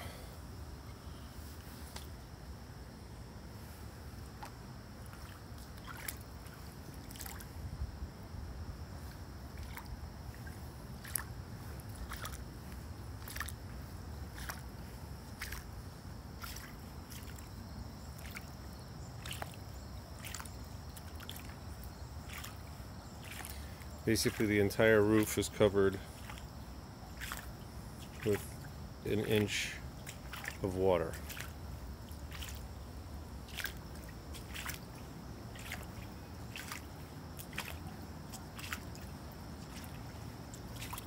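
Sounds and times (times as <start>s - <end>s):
footsteps splashing through water: 4.3s - 7.5s, 9.0s - 41.0s.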